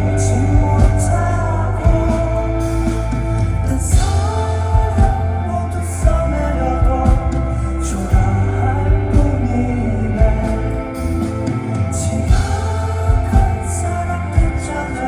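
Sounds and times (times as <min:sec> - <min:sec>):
live rock band playing: 0:00.0 - 0:15.0
steady drum beat: 0:00.0 - 0:15.0.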